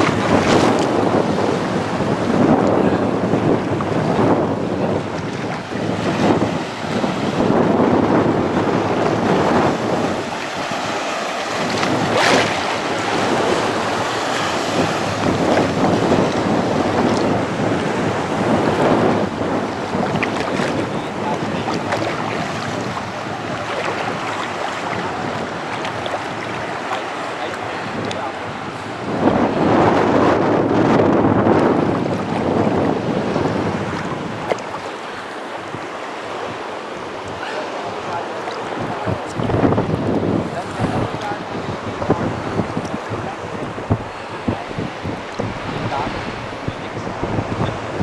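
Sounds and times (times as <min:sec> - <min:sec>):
sea surf washing on shore: 0:00.0 - 0:48.0
wind buffeting microphone: 0:00.0 - 0:48.0.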